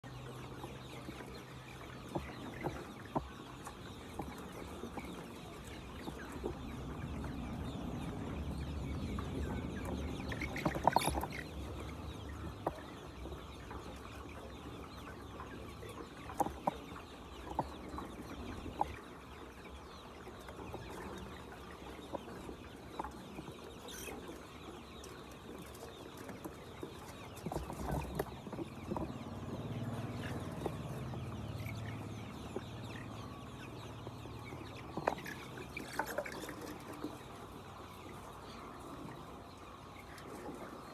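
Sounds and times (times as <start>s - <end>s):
chickens clucking and cheeping: 0.0s - 40.9s.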